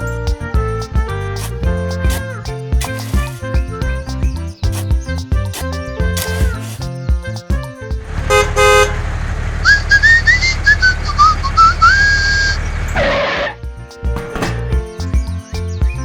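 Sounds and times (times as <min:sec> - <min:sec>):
whistled melody: 0:00.0 - 0:08.8, 0:09.6 - 0:16.0
low pulsing music bed: 0:00.0 - 0:16.0.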